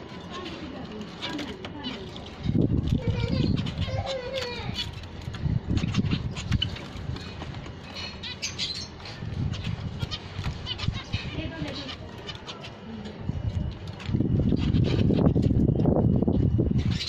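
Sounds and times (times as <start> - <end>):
finches chirping and calling: 0.0 - 17.0.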